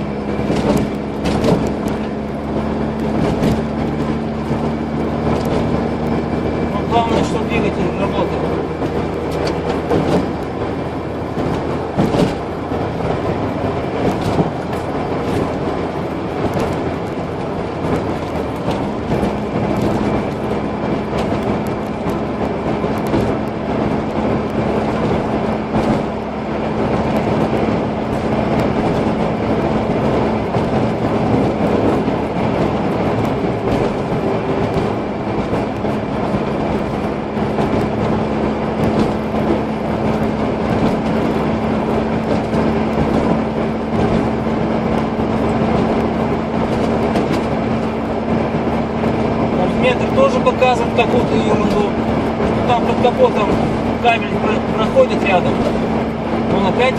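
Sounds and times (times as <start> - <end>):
car engine hum: 0.0 - 56.9
road noise inside car: 0.0 - 56.9.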